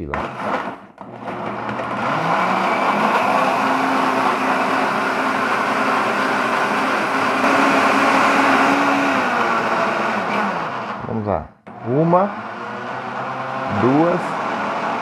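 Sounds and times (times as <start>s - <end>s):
blender motor whining: 0.0s - 15.0s.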